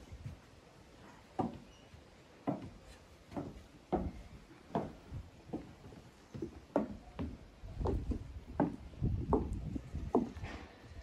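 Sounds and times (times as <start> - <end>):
footsteps on wooden deck: 0.0 - 11.0.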